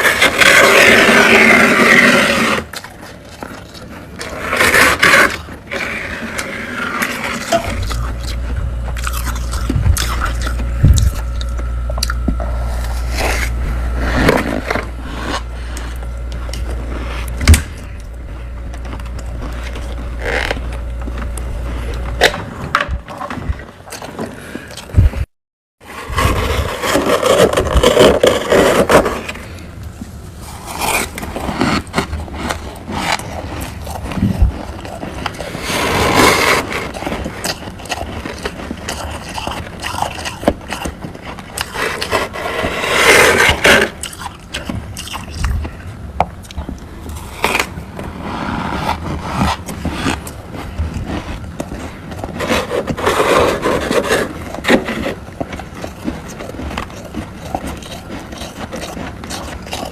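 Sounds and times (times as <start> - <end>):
frost being scraped and crunched: 0.0 - 25.2, 25.8 - 45.8, 46.7 - 59.9.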